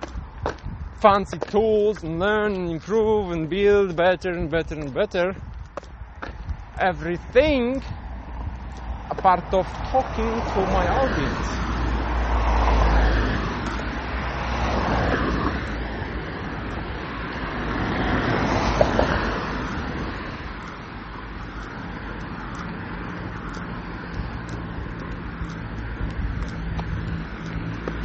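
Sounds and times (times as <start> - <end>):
road traffic rumble: 0.0 - 28.0
vehicles passing: 0.0 - 28.0.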